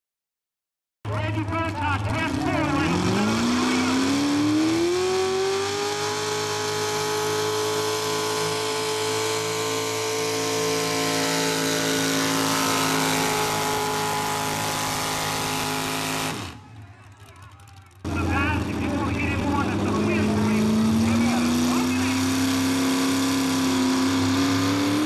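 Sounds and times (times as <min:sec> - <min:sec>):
truck engine revving: 0:01.1 - 0:25.0.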